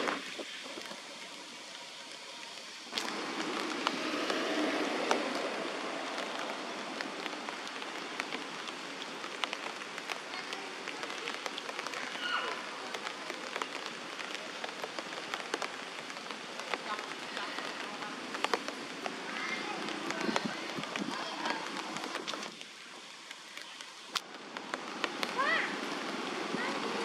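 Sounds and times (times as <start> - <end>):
rain pattering: 0.0 - 27.0.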